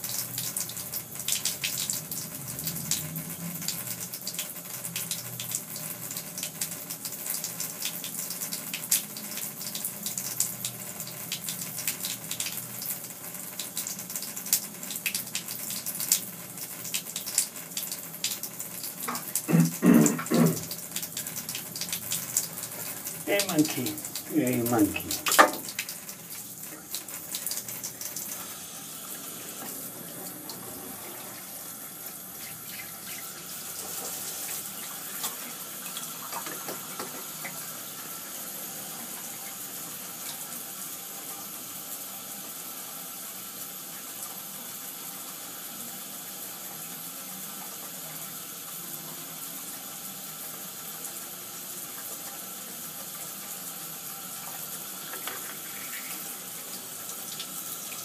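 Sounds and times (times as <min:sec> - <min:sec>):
bath tap running: 0:00.0 - 0:58.0.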